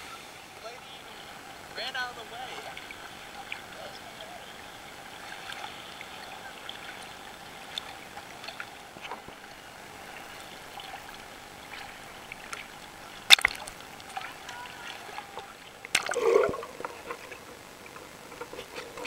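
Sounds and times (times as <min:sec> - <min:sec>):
water sloshing and lapping: 0:01.8 - 0:19.0.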